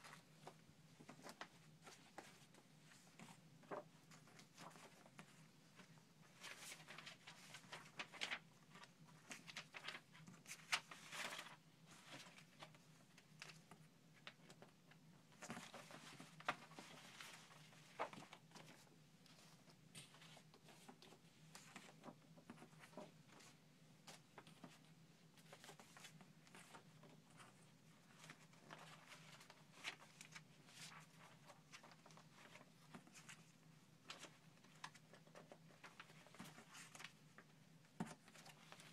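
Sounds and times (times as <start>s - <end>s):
paper rustling: 0.0s - 14.7s, 15.3s - 38.9s.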